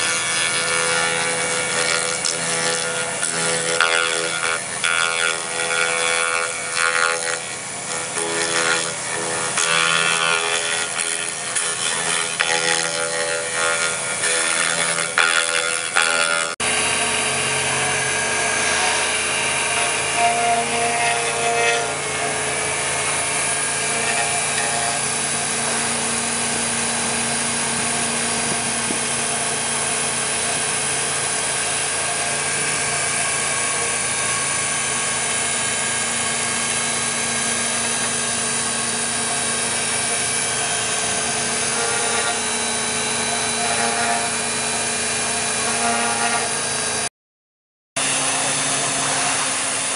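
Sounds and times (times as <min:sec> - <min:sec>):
milling machine spindle hum: 0:00.0 - 0:47.1, 0:48.0 - 0:49.9.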